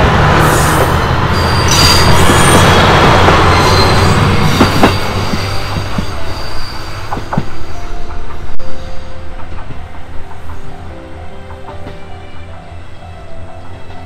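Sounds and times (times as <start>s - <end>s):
wheels squealing on rails: 0.1s - 14.0s.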